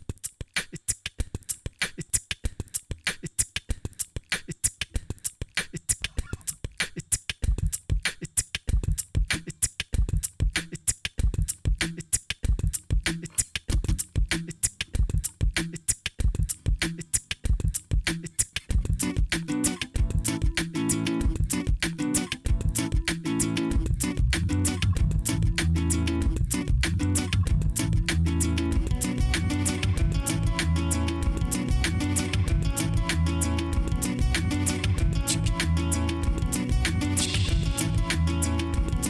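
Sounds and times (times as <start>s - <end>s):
beatboxed hi-hat clicks: 0.0s - 39.0s
beatboxed kick drum thumps: 0.0s - 39.0s.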